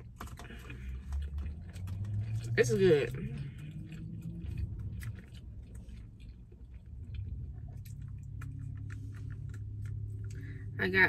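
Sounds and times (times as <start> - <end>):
chewing with wet clicks: 0.0 - 10.8
low hum: 0.6 - 11.0.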